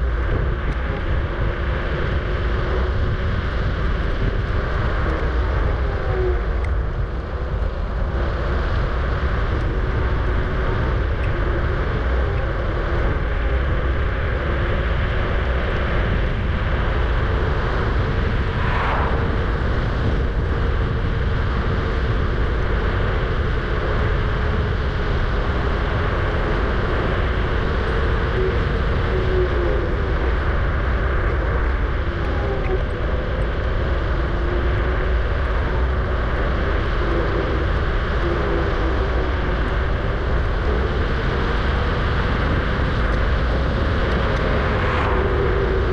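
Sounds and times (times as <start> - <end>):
faint steady whine: 0.0 - 45.9
road noise: 0.0 - 45.9
wind rushing over microphone: 0.0 - 45.9.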